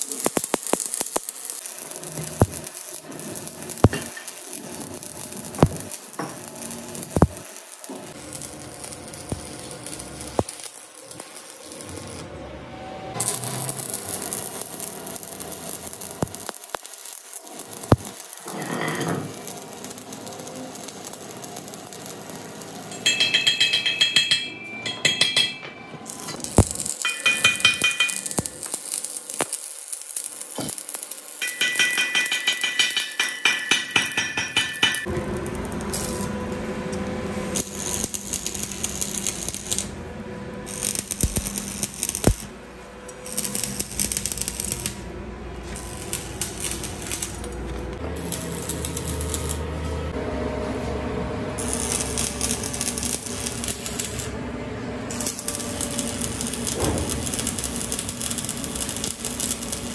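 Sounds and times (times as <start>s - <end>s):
welding arc crackling and spitting: 0.0s - 12.3s, 13.1s - 23.1s, 26.0s - 36.4s, 37.4s - 40.0s, 40.6s - 50.1s, 51.6s - 54.4s, 55.1s - 59.9s.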